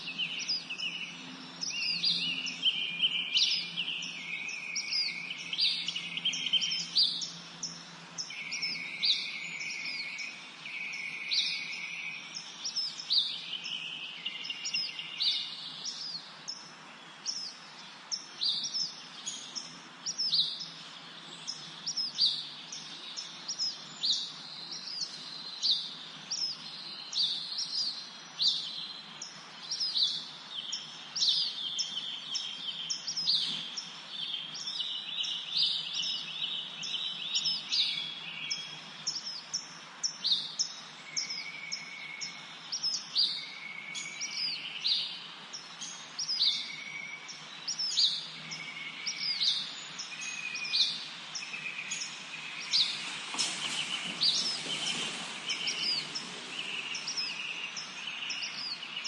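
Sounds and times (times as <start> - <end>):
lower bird trilling song: 0.0 - 59.0
songbirds chirping: 0.0 - 59.0.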